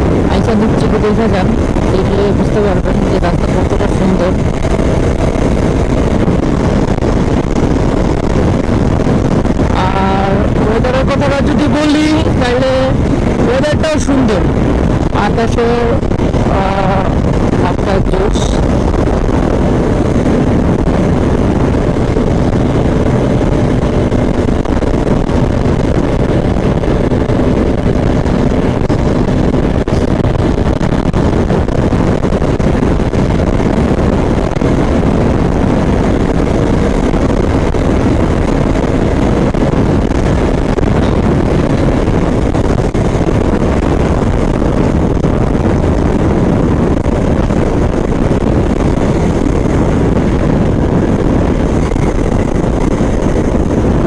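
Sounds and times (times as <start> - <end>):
motorcycle engine drone: 0.0 - 54.0
road and wind rush: 0.0 - 54.0.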